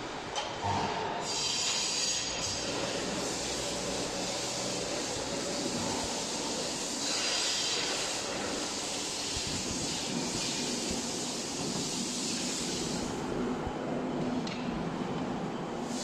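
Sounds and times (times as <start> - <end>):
machinery hiss: 1.2 - 14.4, 15.7 - 16.0.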